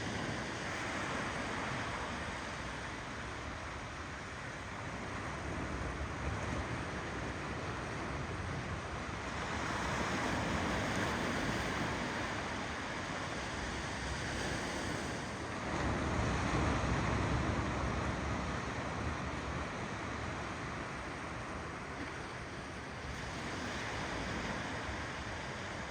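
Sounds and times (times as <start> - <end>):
ocean waves washing on shore: 0.0 - 25.9.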